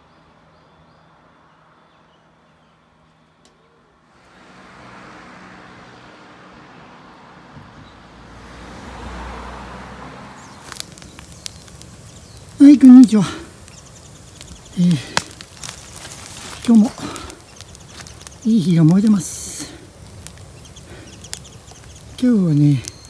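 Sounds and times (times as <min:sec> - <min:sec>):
motor vehicle passing: 0:01.1 - 0:23.0.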